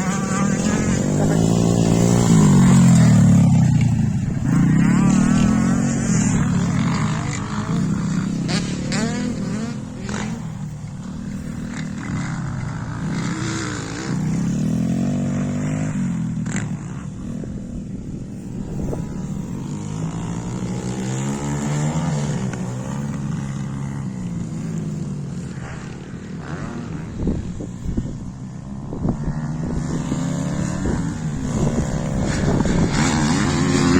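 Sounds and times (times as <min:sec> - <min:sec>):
small motorbike engine revving: 0:00.0 - 0:33.9.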